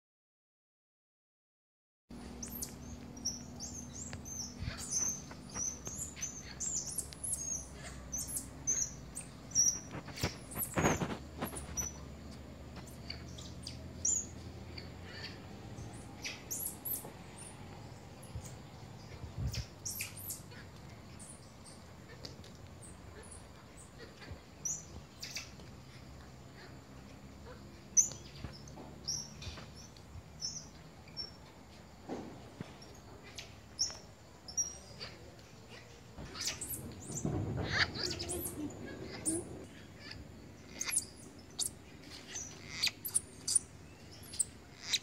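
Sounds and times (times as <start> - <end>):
monkeys chirping: 2.3 - 12.1, 12.8 - 31.5, 32.8 - 45.0.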